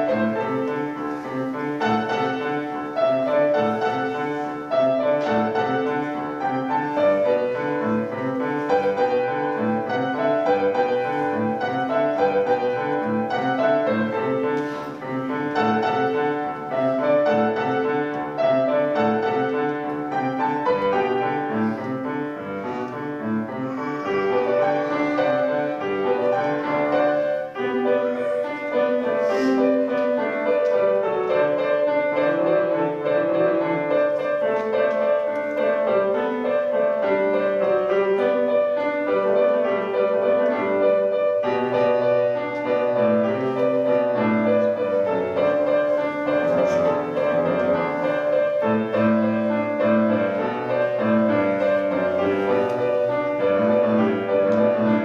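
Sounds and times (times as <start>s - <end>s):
piano duet: 0.0s - 55.0s.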